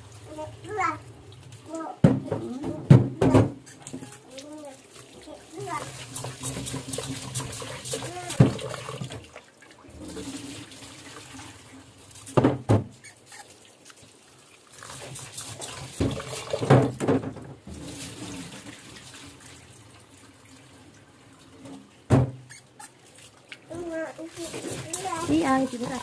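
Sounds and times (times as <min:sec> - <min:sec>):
tap water running into pot: 0:00.0 - 0:13.0, 0:13.7 - 0:26.0
rinse water poured into sink: 0:00.0 - 0:26.0
water splashing in steel sink: 0:00.0 - 0:26.0.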